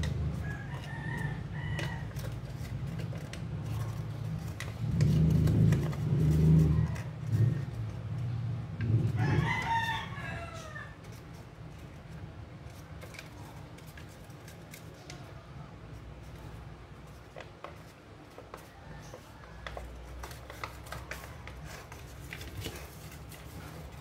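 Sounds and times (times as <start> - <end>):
paper crinkling: 0.0 - 8.1, 9.1 - 24.0.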